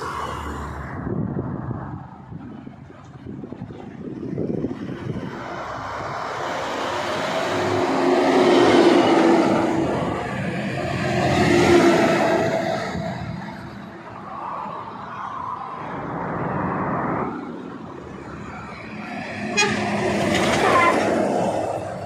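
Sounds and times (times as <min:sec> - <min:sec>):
heavy vehicle engine passing: 0:00.0 - 0:15.0, 0:15.7 - 0:22.0.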